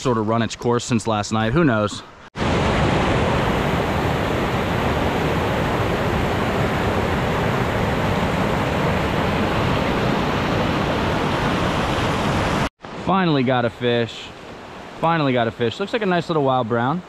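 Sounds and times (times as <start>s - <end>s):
creek water rushing: 1.6s - 17.0s.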